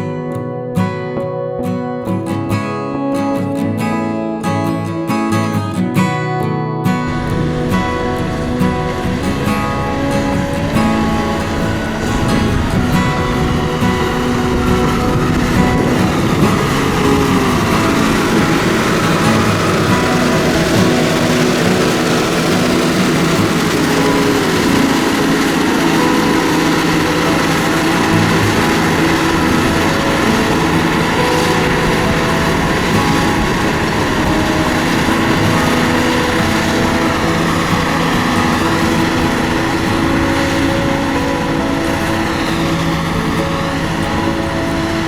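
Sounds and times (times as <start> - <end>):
diesel engine running under load: 6.9 - 45.0.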